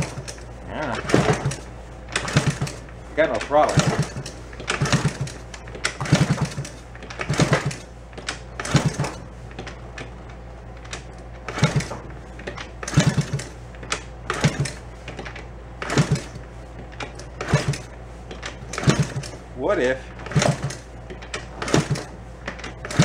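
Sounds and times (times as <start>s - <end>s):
kick-start lever clatter: 0.0s - 19.4s, 20.2s - 23.0s
motorcycle engine turning over: 0.0s - 23.0s.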